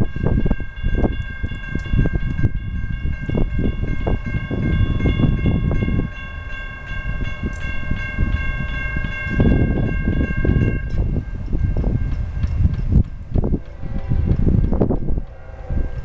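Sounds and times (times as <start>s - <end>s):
low rumbling noise: 0.0s - 16.0s
railroad crossing bell ringing: 0.0s - 16.0s.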